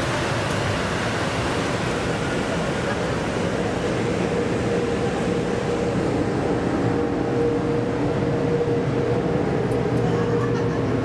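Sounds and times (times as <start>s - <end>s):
train interior hum and hiss: 0.0s - 11.0s.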